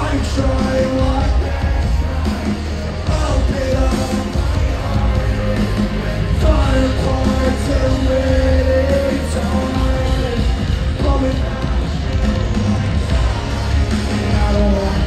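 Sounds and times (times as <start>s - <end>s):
band playing loud rock music: 0.0s - 15.0s
sung and shouted vocals: 0.0s - 15.0s.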